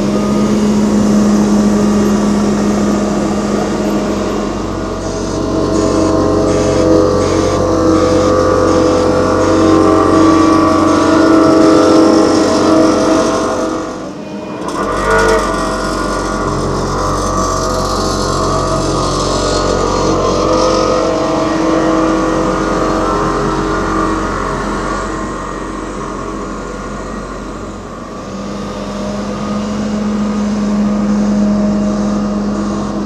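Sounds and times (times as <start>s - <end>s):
diesel machinery engines running: 0.0s - 33.0s
low machine hum: 0.0s - 33.0s.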